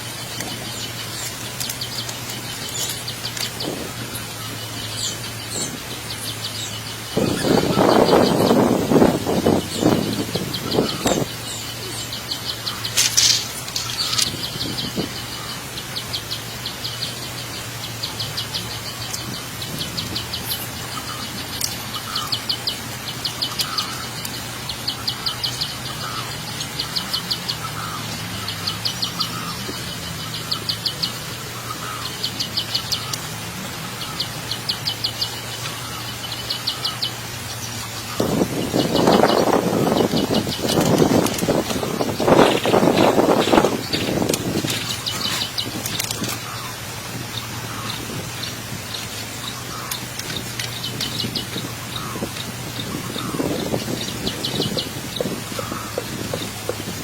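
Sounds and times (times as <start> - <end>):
high-pitched chirping trills: 0.0 - 57.0.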